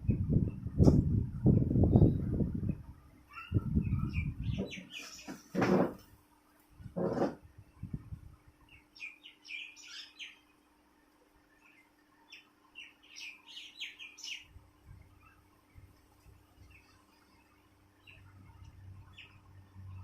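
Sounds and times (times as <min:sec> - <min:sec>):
small birds chirping: 0:00.0 - 0:05.9, 0:07.6 - 0:20.0.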